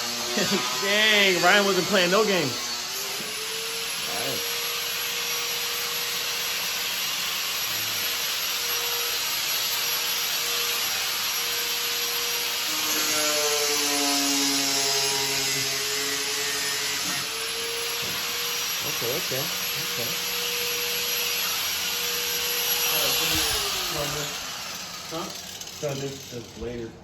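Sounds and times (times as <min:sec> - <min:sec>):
power tool whining and grinding: 0:00.0 - 0:27.0.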